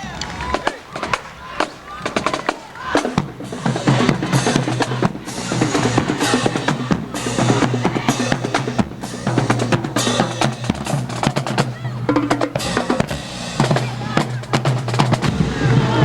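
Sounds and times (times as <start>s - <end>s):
snare drums: 0.0s - 16.0s
bass drum strokes: 3.0s - 16.0s.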